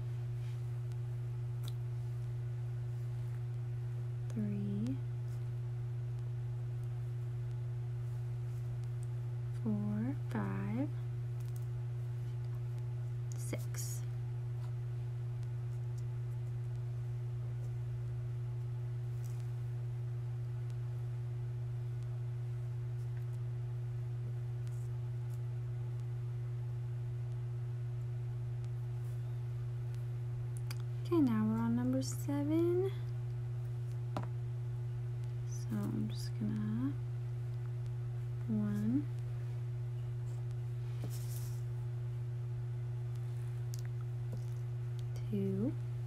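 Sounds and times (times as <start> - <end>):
low mains electrical hum: 0.0 - 46.0.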